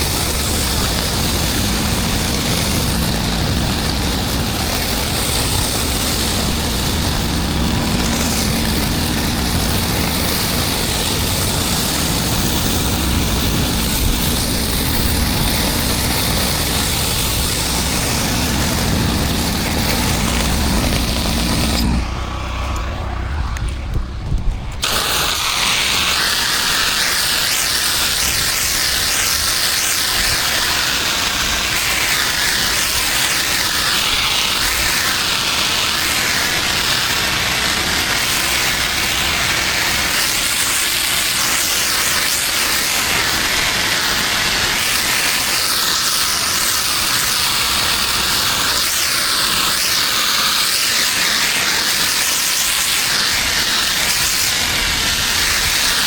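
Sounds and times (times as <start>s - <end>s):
high-pressure water hissing: 0.0s - 23.3s, 24.8s - 56.0s
pressure washer engine running: 0.0s - 56.0s.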